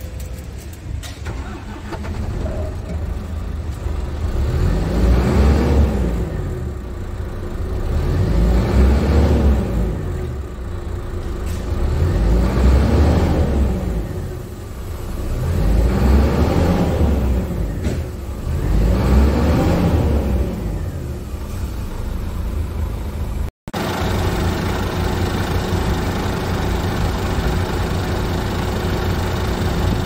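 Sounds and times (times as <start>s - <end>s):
diesel truck engine revving: 1.2s - 30.0s.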